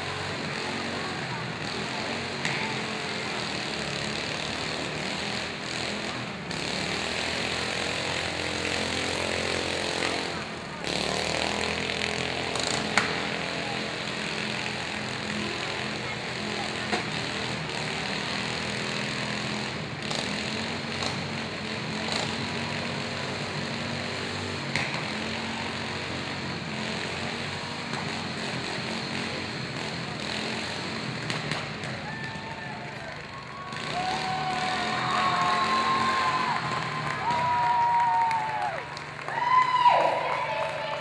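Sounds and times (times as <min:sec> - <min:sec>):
riding lawn mower engines: 0:00.0 - 0:41.0.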